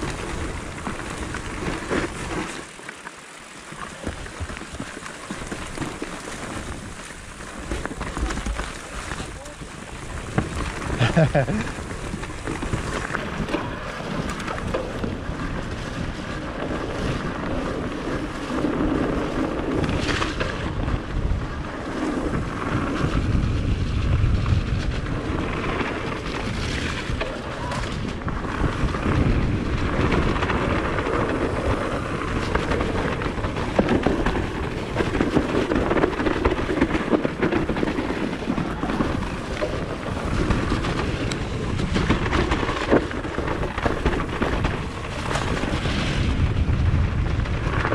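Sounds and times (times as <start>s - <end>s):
wind buffeting the microphone: 0.0s - 2.6s, 3.9s - 47.9s
bike tyre noise: 0.0s - 47.9s
bike knocks and rattles: 3.7s - 47.9s.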